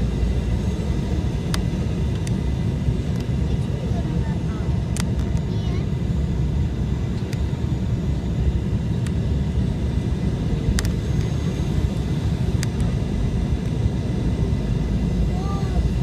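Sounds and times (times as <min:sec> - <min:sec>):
airliner engine and airflow rumble: 0:00.0 - 0:16.0.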